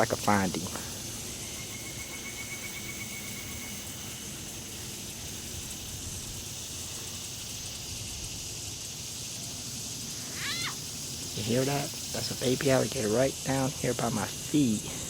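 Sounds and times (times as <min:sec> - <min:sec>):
high hiss or drone: 0:00.0 - 0:15.0.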